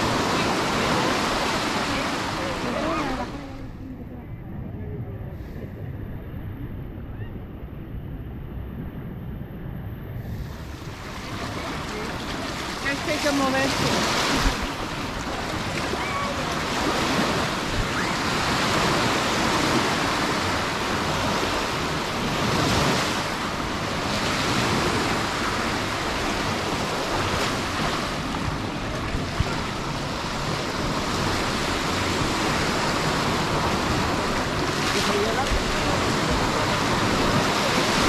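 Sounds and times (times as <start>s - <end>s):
sea waves breaking on beach: 0.0s - 3.7s, 10.3s - 38.0s.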